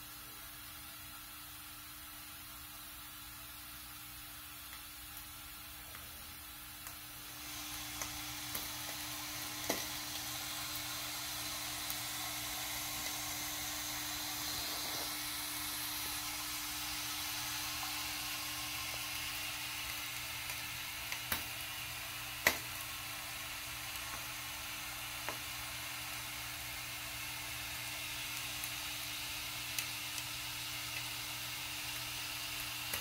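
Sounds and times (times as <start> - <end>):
steam boiler sizzling hiss: 0.0 - 33.0.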